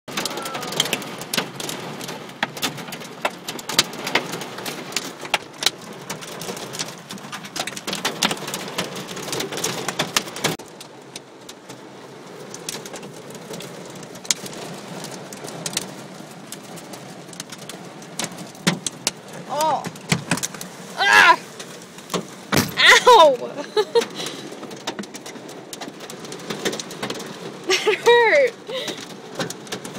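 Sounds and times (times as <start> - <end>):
hailstones hitting car roof: 0.1 - 29.9.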